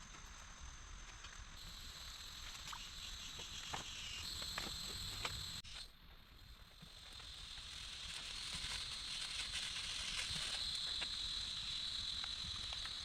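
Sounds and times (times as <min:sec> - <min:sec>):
faint hiss: 0:00.0 - 0:13.0
insects trilling: 0:00.0 - 0:13.0.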